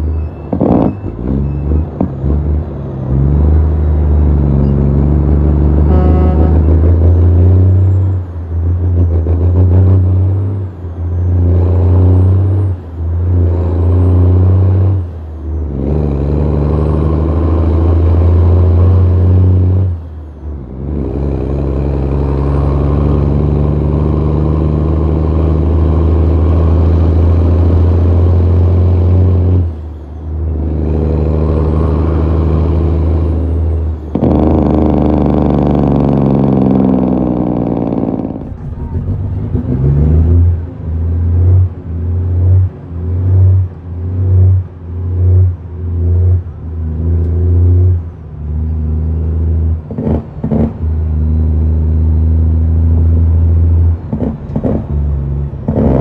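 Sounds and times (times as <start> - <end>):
diesel truck exhaust note: 0.0 - 56.0.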